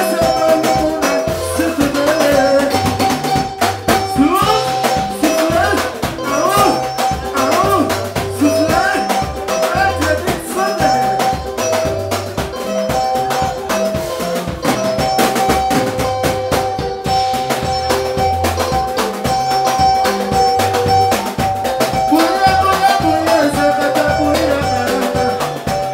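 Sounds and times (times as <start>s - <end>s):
driving drum kit: 0.0s - 25.9s
high guitar riffs: 0.0s - 25.9s
pulsing bass line: 0.0s - 25.9s.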